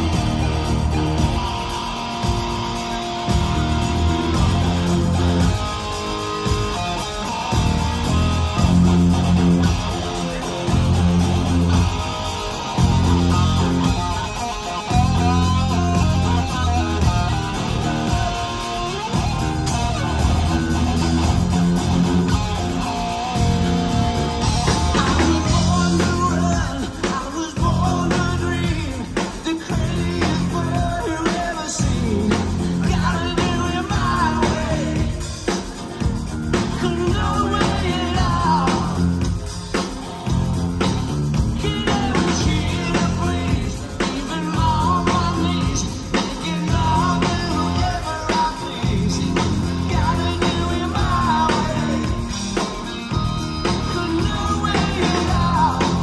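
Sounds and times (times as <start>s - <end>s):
bass guitar: 0.0s - 56.0s
drum kit: 0.0s - 56.0s
electric guitar: 0.0s - 56.0s
man singing: 8.6s - 40.3s, 41.3s - 56.0s.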